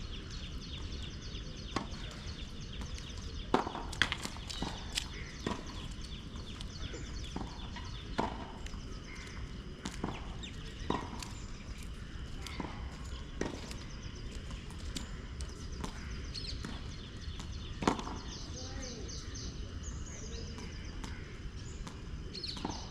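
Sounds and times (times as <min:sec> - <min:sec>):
low background hum: 0:00.0 - 0:22.9
tennis balls struck and bouncing: 0:01.6 - 0:18.6, 0:20.6 - 0:22.9.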